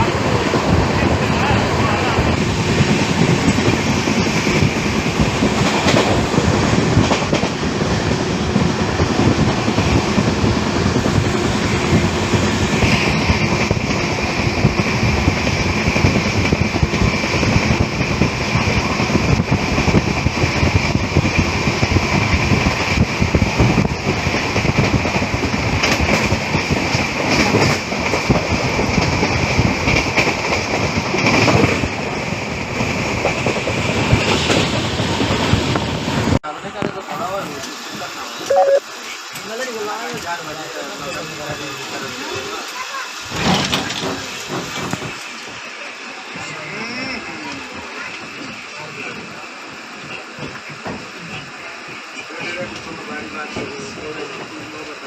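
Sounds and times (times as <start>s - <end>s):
train wheels rumbling over rails: 0.0s - 36.4s, 39.3s - 46.6s, 47.2s - 55.0s.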